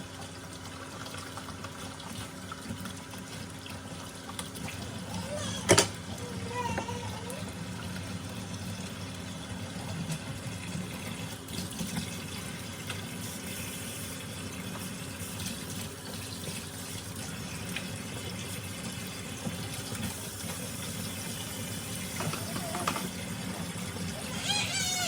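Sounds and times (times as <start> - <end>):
water running from tap into sink: 0.0 - 25.0.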